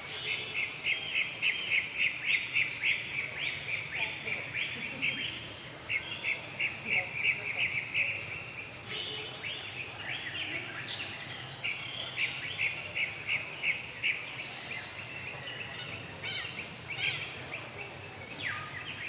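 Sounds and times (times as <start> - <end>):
background hiss: 0.0 - 19.0
high chirping calls: 0.1 - 19.0.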